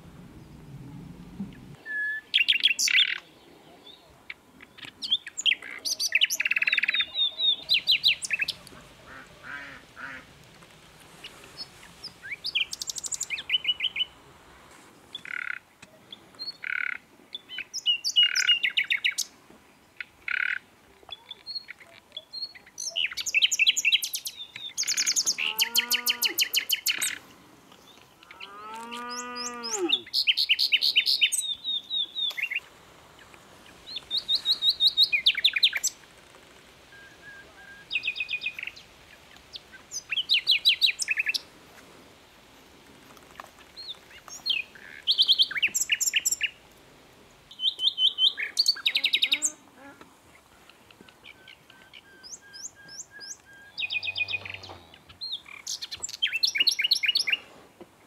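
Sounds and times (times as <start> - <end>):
songbirds singing and chirping: 0.0 - 10.2, 11.2 - 14.2, 15.0 - 41.5, 43.3 - 57.6.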